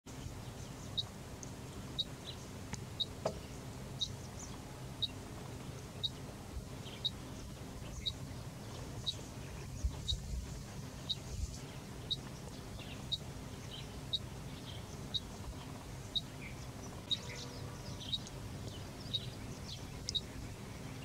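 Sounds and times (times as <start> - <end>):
bird chirping: 0.1 - 21.0.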